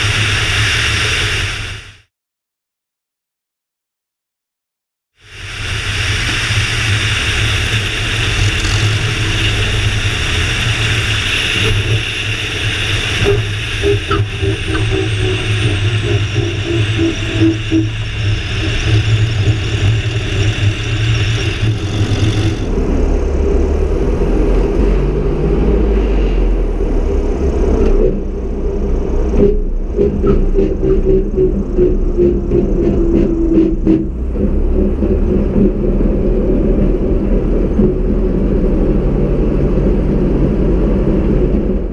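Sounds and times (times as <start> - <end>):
propeller aircraft engine running: 0.0 - 2.1, 5.2 - 41.9.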